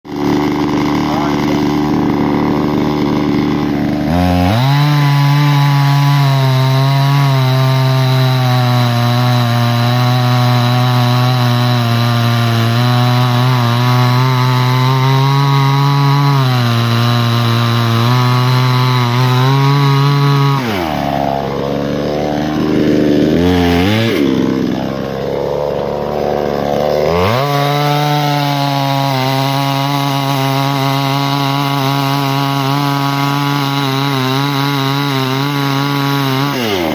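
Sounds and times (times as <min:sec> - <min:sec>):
chainsaw cutting wood: 0:00.1 - 0:36.9.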